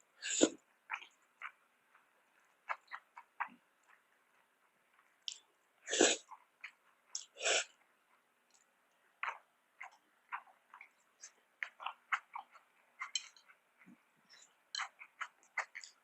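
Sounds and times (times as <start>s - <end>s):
wet chewing and mouth clicks: 0.3s - 16.0s.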